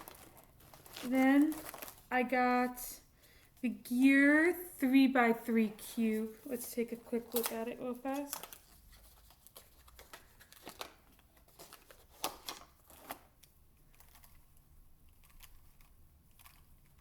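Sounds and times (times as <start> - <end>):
soft crinkling: 0.0 - 17.0.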